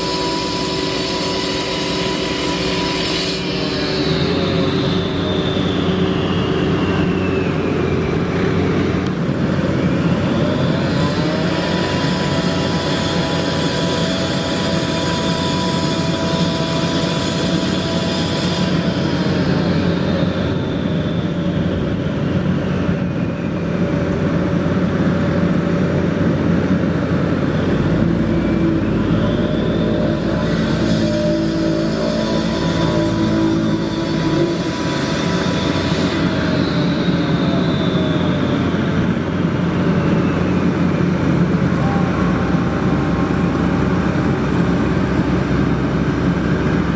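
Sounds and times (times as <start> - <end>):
diesel machinery engine whining: 0.0 - 46.9.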